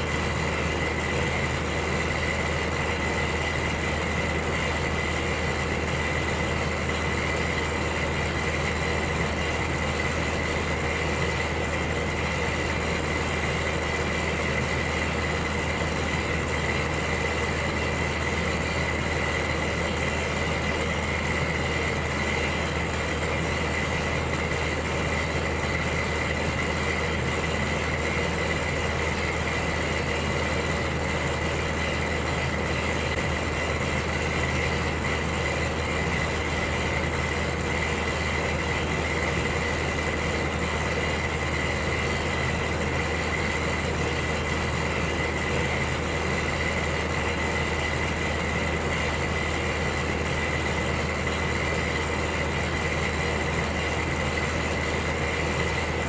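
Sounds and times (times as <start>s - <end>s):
electric heater humming and rushing: 0.0s - 56.0s.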